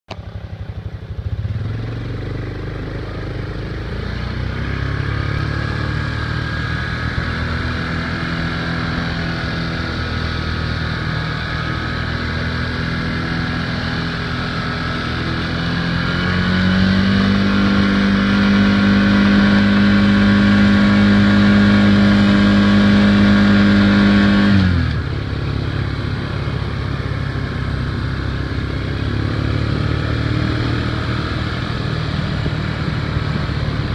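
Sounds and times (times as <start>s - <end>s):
vehicle engine revving: 0.1s - 33.9s.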